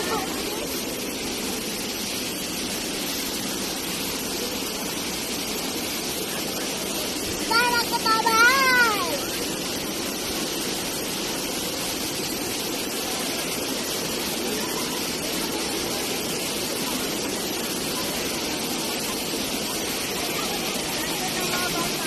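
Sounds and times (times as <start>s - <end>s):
faint voices: 0.0s - 22.0s
waterfall rushing into pool: 0.0s - 22.0s.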